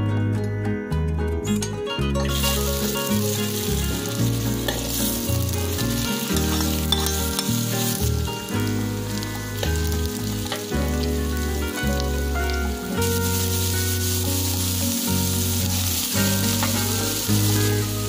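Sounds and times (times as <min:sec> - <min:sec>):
food sizzling in wok: 0:02.2 - 0:18.0.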